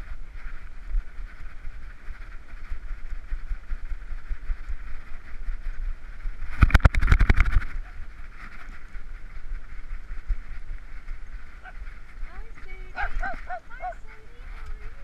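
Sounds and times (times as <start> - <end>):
muffled camera rumble and rubbing: 0.0 - 15.0.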